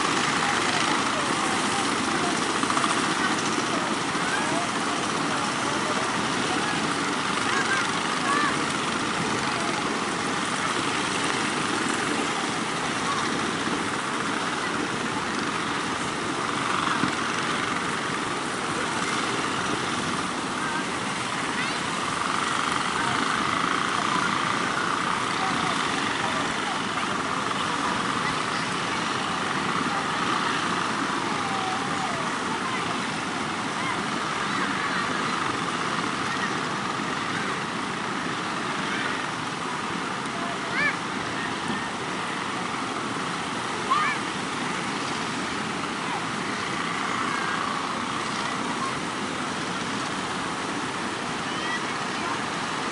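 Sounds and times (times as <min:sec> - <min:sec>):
sea surf breaking: 0:00.0 - 0:52.9
small boat engines running: 0:00.0 - 0:52.9.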